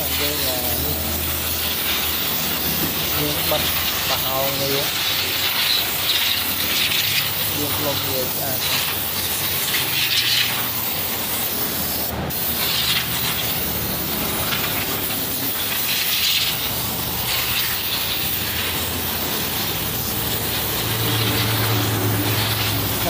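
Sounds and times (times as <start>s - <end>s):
spray gun hissing: 0.0s - 23.0s.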